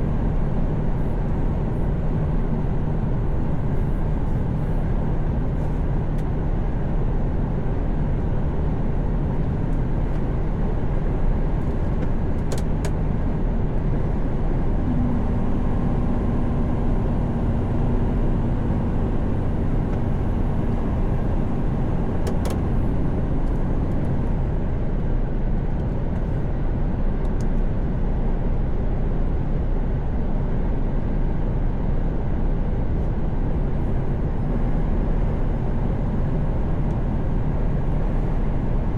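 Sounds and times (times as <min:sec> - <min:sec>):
truck engine drone: 0:00.0 - 0:38.9.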